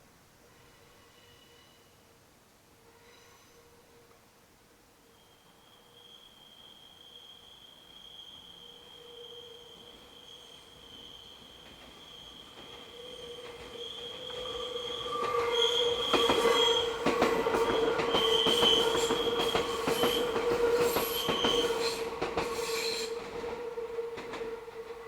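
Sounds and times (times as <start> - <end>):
train wheels squealing: 0.6 - 2.0, 2.9 - 3.9, 5.1 - 25.0.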